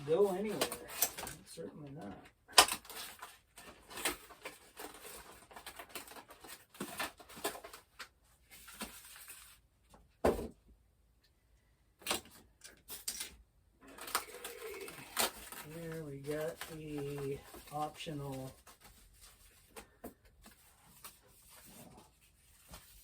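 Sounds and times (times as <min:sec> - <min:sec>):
packaging rustling: 0:00.0 - 0:09.6, 0:12.0 - 0:23.0.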